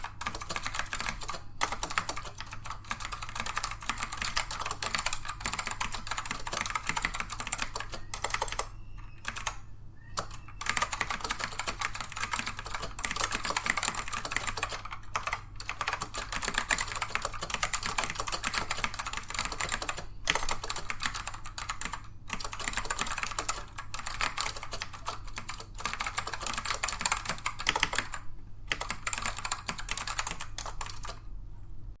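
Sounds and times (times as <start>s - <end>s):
fast keyboard typing: 0.0s - 9.6s, 10.2s - 31.3s.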